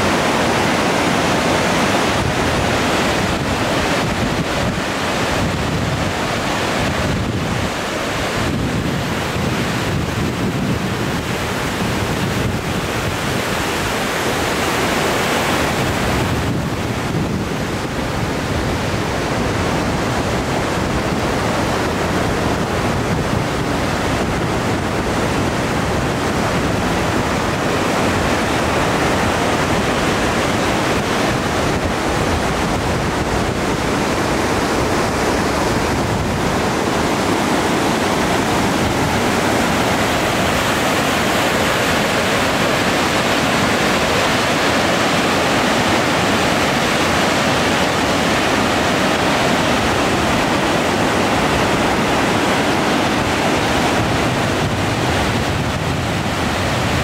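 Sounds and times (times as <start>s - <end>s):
whitewater rapids rushing: 0.0s - 57.0s.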